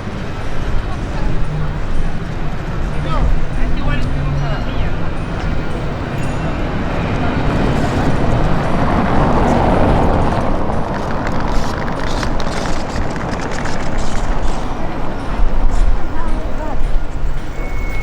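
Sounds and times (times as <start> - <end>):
city street noise: 0.0 - 18.0
wind rumbling on microphone: 0.0 - 18.0.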